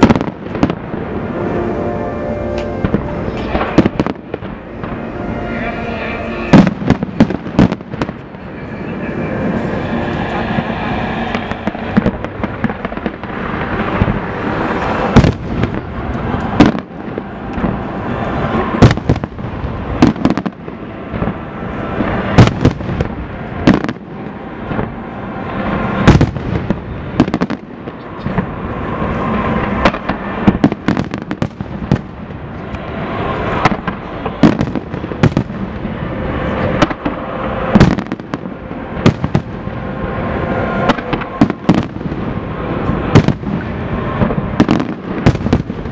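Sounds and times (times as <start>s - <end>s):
fireworks shells exploding: 0.0s - 1.8s, 2.5s - 5.6s, 6.3s - 8.5s, 9.4s - 25.0s, 25.6s - 32.5s, 33.1s - 45.9s
fireworks crackling: 0.0s - 45.9s.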